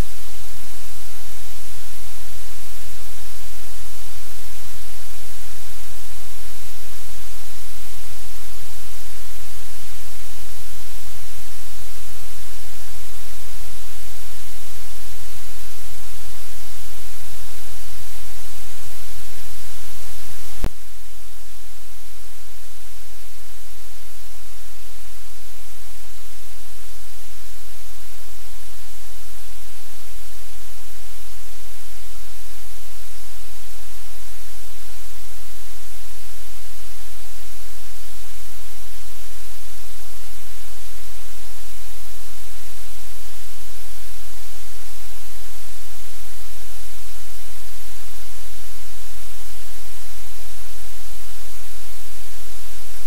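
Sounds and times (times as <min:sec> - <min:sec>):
static hiss: 0:00.0 - 0:53.0.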